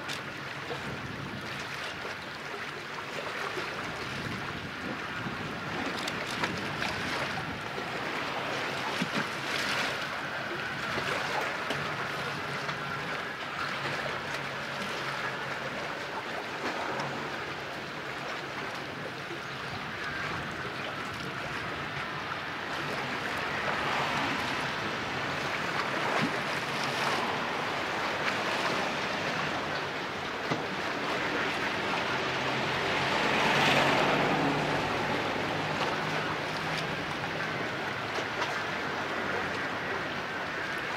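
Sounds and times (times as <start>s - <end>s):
small waves washing: 0.0s - 40.9s
wind: 0.0s - 40.9s.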